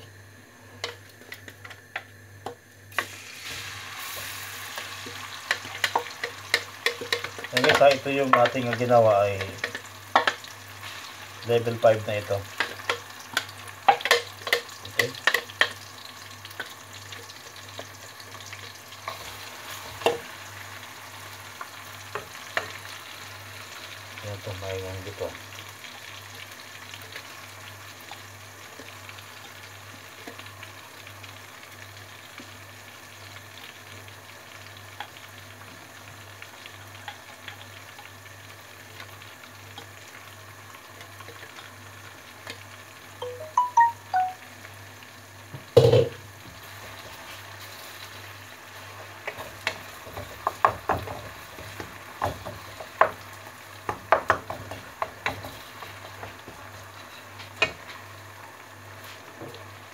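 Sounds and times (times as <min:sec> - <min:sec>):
oil sizzling in a wok: 0:00.0 - 0:59.9.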